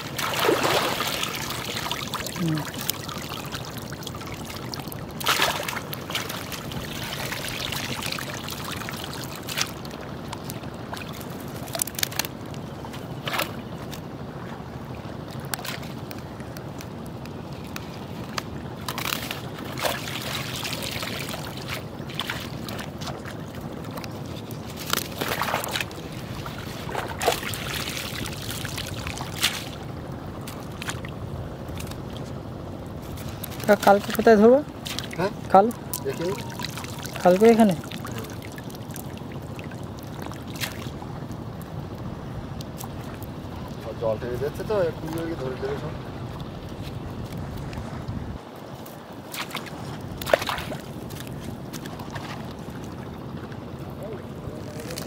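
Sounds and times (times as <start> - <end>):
water splashes: 0.0 - 55.0.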